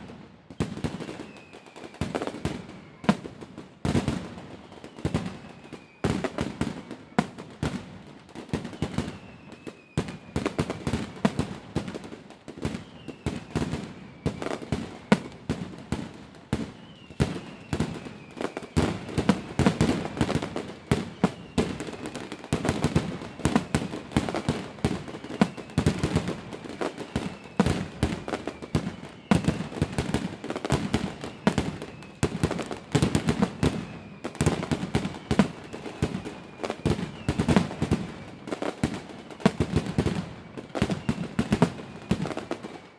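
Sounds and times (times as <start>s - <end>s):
falling firework whistle: 0.0s - 42.9s
firework bursts and bangs: 0.0s - 42.9s.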